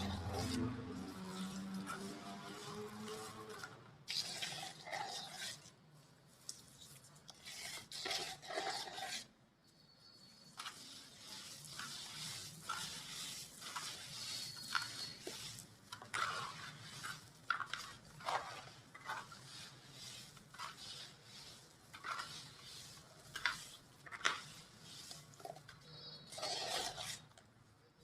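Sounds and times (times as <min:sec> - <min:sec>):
cement chunks crunching: 0:00.0 - 0:05.6, 0:10.6 - 0:27.4
dry gritty rustle: 0:00.0 - 0:09.3, 0:10.4 - 0:27.5.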